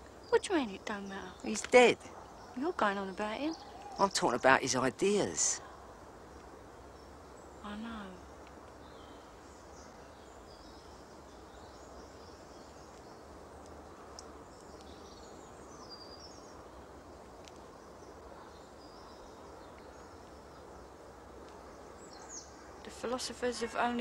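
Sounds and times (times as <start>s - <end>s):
low background hiss: 0.0s - 24.0s
small birds chirping: 0.0s - 24.0s.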